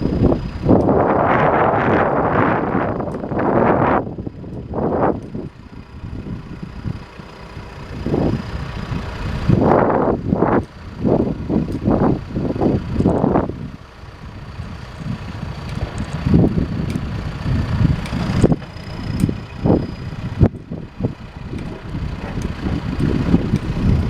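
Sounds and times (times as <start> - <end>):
diesel engine surging: 0.0 - 24.0.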